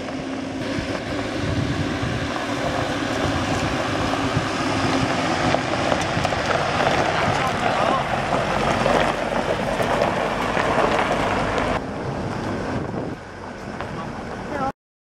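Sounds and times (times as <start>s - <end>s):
wind on microphone: 0.0s - 14.2s
tyres on gravel: 0.0s - 14.7s
van engine: 0.0s - 14.7s.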